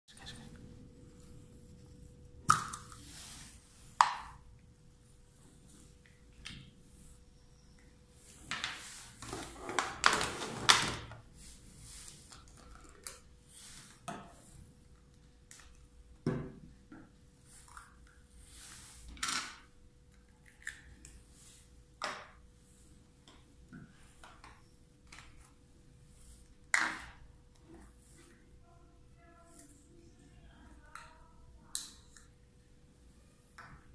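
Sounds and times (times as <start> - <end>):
faint steady hum: 0.1 - 33.9.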